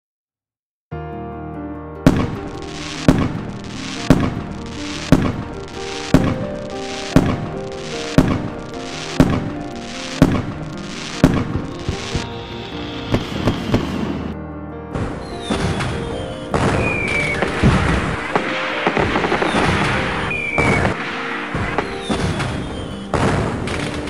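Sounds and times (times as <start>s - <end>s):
background music: 0.9s - 24.0s
hissing crackle of fireworks: 2.1s - 14.4s, 15.3s - 24.0s
sharp firework bangs: 2.1s - 14.4s, 15.0s - 24.0s.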